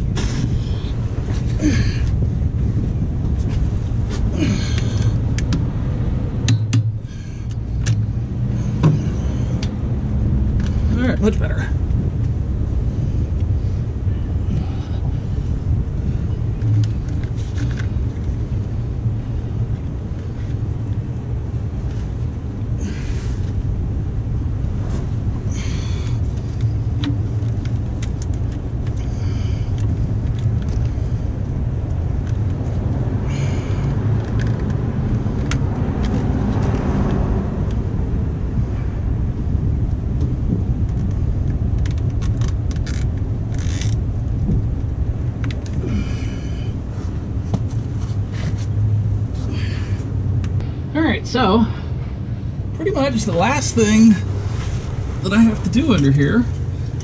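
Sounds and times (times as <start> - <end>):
low rumble: 0.0 - 57.0.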